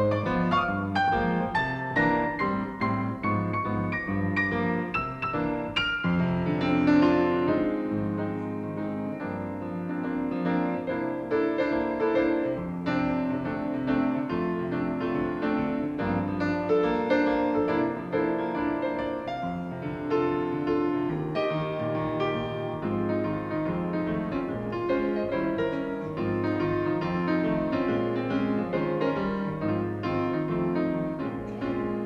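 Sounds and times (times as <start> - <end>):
jazz piano solo: 0.0 - 32.0.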